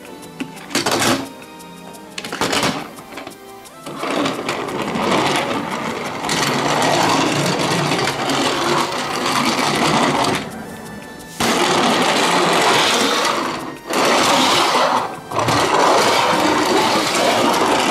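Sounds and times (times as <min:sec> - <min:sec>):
toy motor whirring: 0:00.0 - 0:17.9.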